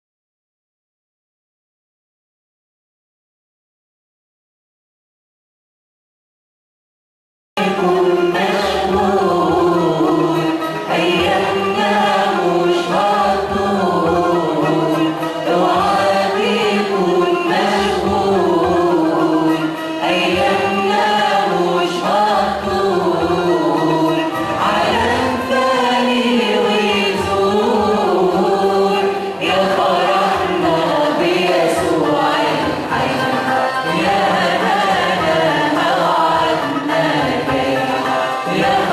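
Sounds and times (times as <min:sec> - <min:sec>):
choir singing a hymn: 0:07.6 - 0:38.9.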